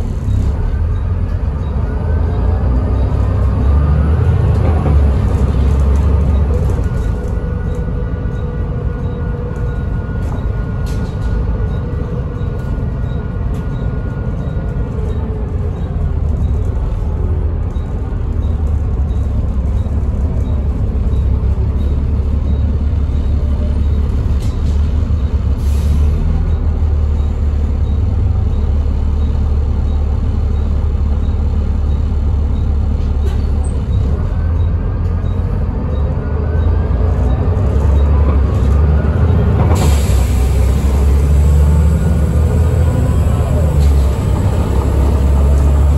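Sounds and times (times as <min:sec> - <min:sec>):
bus diesel drone: 0:00.0 - 0:45.9.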